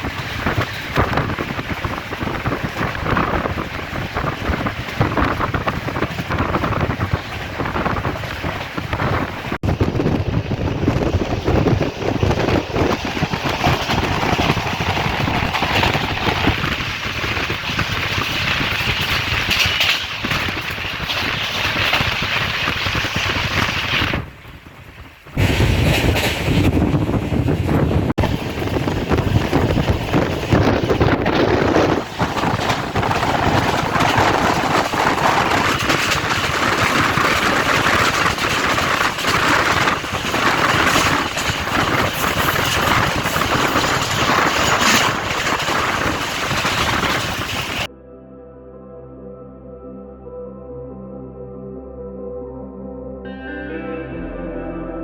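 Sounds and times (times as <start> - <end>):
train rumbling and rattling: 0.0 - 47.9.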